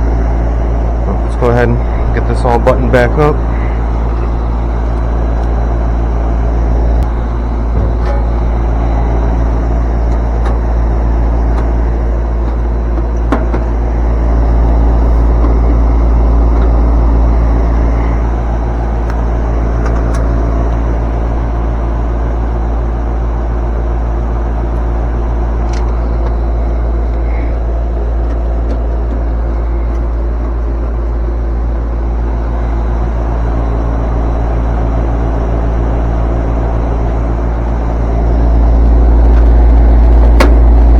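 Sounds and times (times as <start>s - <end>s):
loud machine hum: 0.0s - 40.9s.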